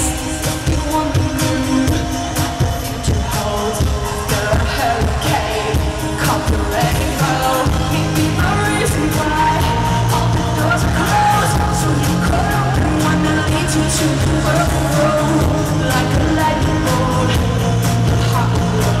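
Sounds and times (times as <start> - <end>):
pop band playing: 0.0 - 19.0
woman singing: 0.0 - 19.0.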